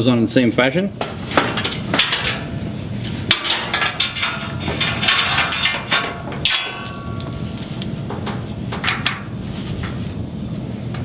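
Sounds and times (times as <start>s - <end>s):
hardware clicks and knocks: 1.0s - 10.0s.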